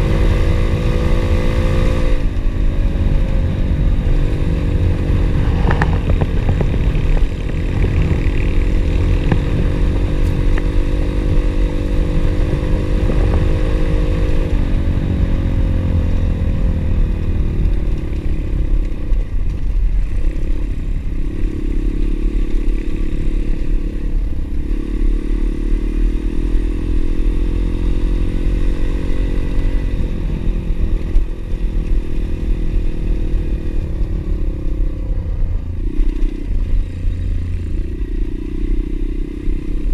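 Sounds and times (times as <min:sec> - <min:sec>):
pit bike engine running: 0:00.0 - 0:39.9.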